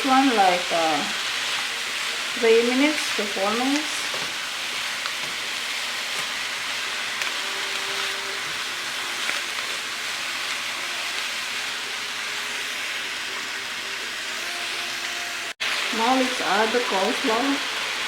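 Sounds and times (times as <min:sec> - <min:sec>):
food sizzling in a wok: 0:00.0 - 0:18.0.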